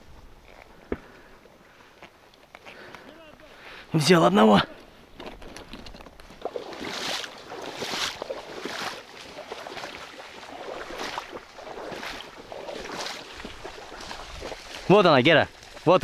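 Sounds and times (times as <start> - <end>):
footsteps wading through water: 0.4 - 16.0.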